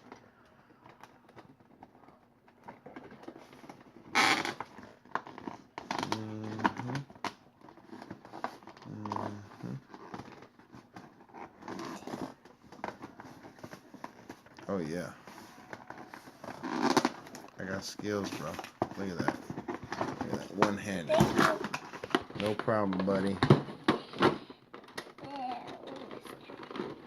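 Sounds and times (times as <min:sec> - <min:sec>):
packaging crinkling and rustling: 0:00.0 - 0:27.0.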